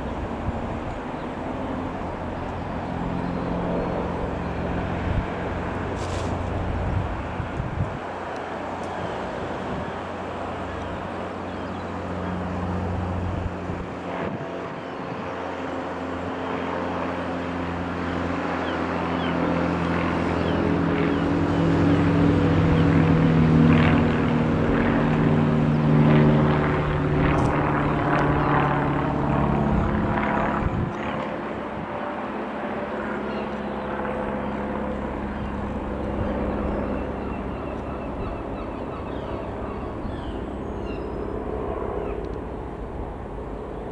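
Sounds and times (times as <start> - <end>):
propeller plane flying past: 0.0 - 43.9.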